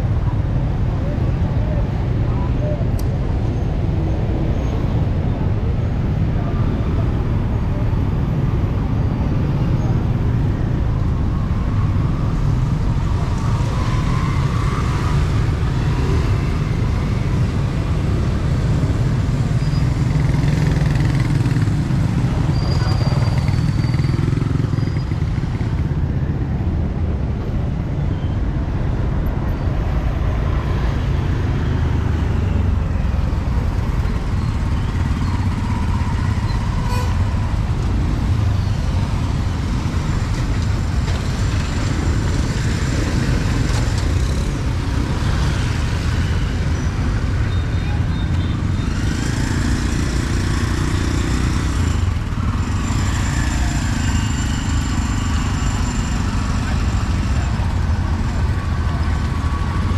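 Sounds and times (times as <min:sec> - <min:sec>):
motorbike and car traffic rumble: 0:00.0 - 0:59.9.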